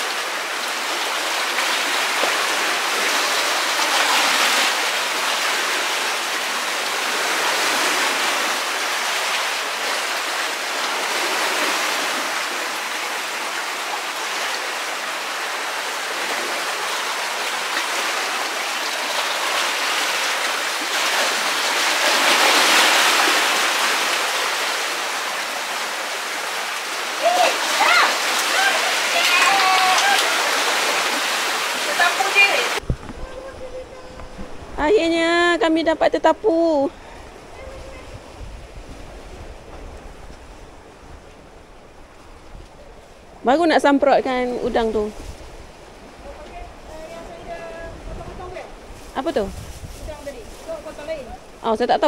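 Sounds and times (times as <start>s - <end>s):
rushing water hiss: 0.0s - 40.8s, 41.5s - 52.0s.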